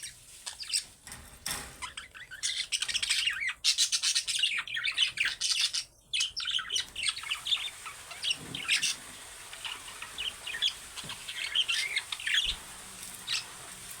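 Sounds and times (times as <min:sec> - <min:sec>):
budgerigars chirping and squawking: 0:00.0 - 0:14.0.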